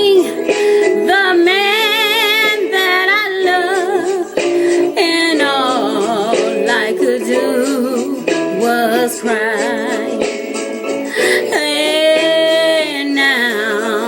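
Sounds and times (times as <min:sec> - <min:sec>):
woman singing with vibrato: 0:00.0 - 0:10.4, 0:11.1 - 0:14.0.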